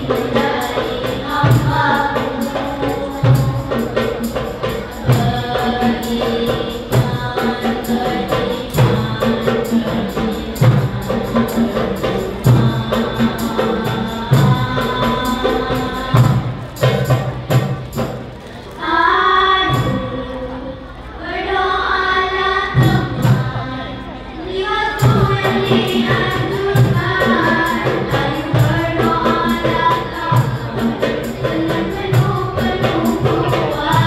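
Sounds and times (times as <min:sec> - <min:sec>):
girls singing together: 0:00.0 - 0:17.2, 0:18.8 - 0:34.0
percussion beat: 0:00.0 - 0:18.6, 0:24.9 - 0:34.0.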